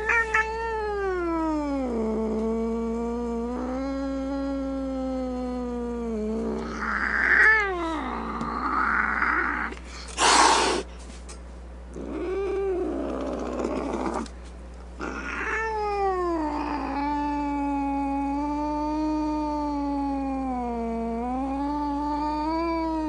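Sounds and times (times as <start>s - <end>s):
cat caterwauling: 0.0s - 9.8s, 12.0s - 14.3s, 15.0s - 23.0s.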